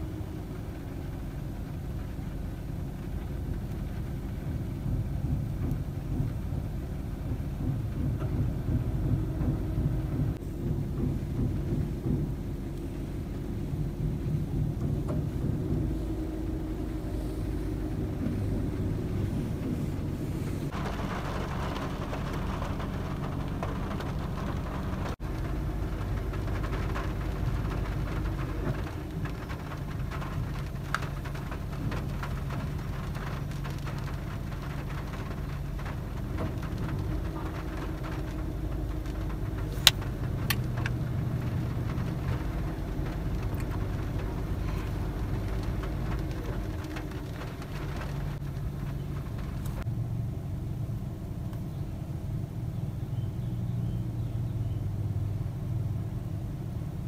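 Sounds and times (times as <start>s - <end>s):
low rumble: 0.0s - 57.0s
steady rain: 0.0s - 57.0s.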